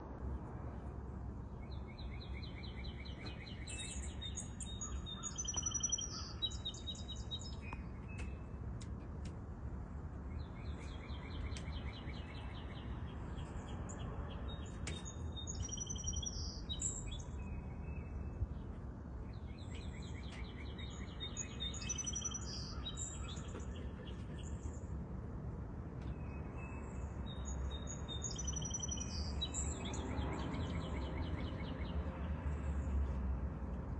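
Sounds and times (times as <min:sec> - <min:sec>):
songbird singing: 0:00.3 - 0:09.4, 0:10.1 - 0:25.2, 0:25.9 - 0:33.2.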